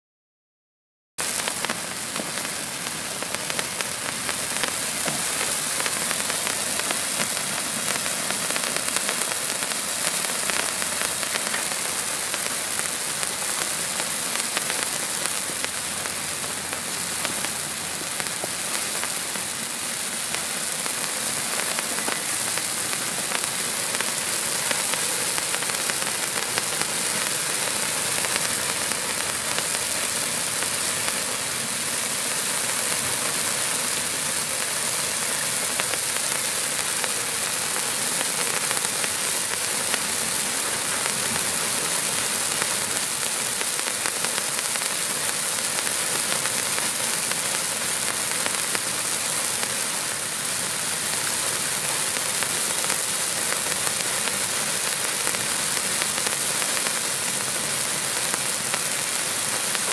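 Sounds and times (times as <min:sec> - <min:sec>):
sparkling torches sizzling hiss: 0:01.2 - 0:59.9.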